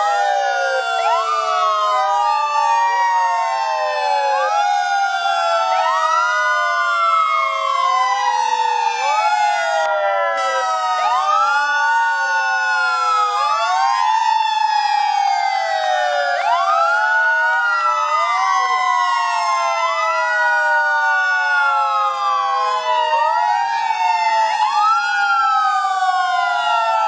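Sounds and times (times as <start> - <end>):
fire engine sirens wailing: 0.0 - 27.0.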